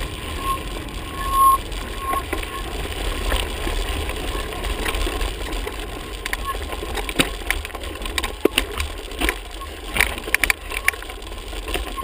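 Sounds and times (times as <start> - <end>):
bike rattling over stones: 0.0 - 12.0
wind rumbling on microphone: 0.0 - 12.0.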